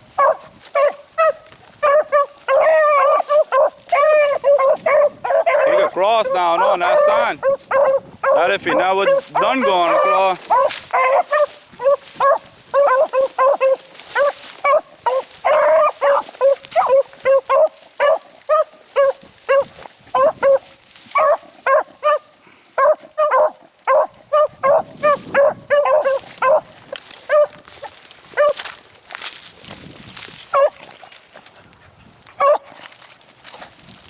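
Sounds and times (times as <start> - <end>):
dogs barking: 0.1 - 28.7, 30.5 - 31.0, 32.4 - 32.8.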